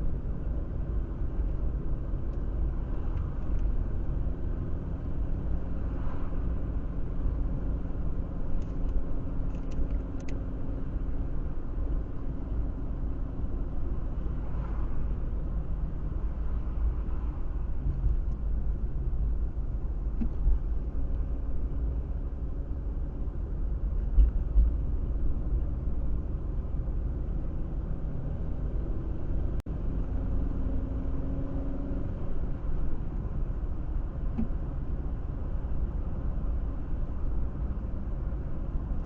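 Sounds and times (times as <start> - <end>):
car road rumble and engine drone: 0.0 - 39.0.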